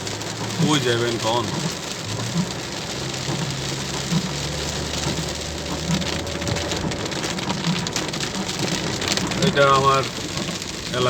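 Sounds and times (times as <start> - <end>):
heavy rain on car body: 0.0 - 11.0
low car hum: 0.0 - 11.0.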